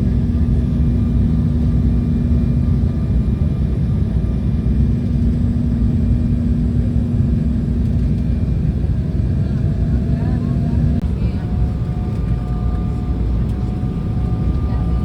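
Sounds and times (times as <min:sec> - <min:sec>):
constant low hum: 0:00.0 - 0:15.0
jet engine cabin rumble: 0:00.0 - 0:15.0.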